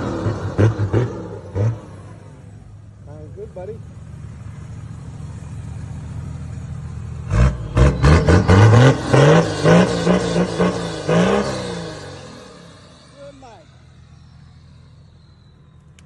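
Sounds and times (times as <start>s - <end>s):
car engine idling: 0.0s - 16.0s
engine revving in throttle blips: 0.0s - 16.0s.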